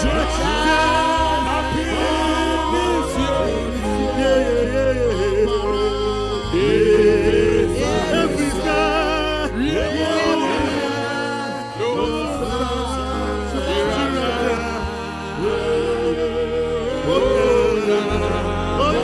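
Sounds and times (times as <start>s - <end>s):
person singing with vibrato: 0.0s - 19.0s
sustained low bass notes: 0.0s - 19.0s.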